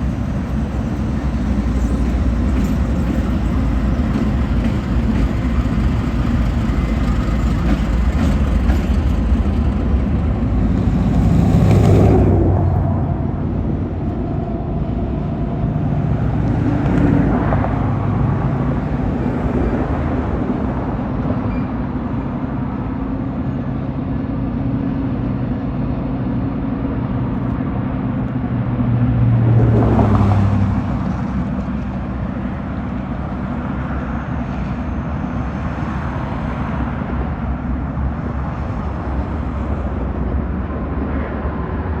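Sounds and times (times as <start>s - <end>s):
diesel locomotive engine drone: 0.0s - 42.0s.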